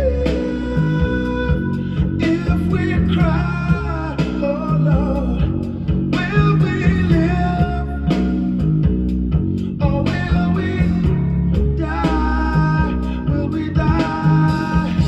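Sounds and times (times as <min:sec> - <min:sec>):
rock blues song with singing: 0:00.0 - 0:15.0.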